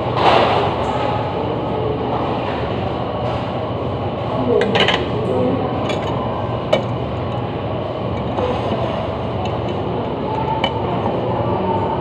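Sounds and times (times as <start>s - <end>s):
restaurant dining room din: 0.0s - 12.0s.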